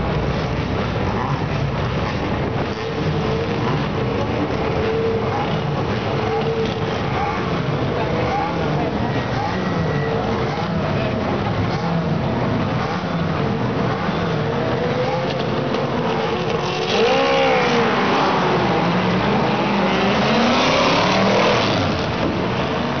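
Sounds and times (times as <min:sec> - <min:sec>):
racing car engines revving: 0:00.0 - 0:23.0.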